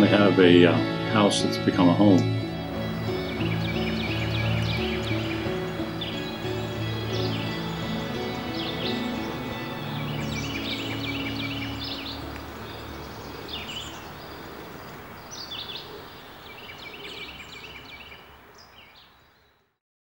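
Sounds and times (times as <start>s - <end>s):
outdoor background hiss: 0.0s - 19.8s
songbirds chirping: 0.0s - 19.8s.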